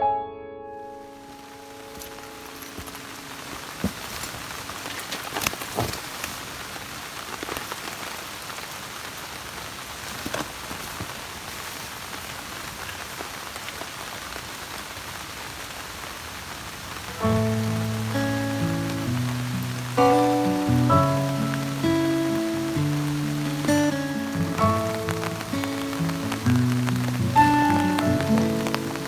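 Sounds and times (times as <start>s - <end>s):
steady rain falling: 0.9s - 29.0s
heavy raindrops striking: 1.0s - 29.0s.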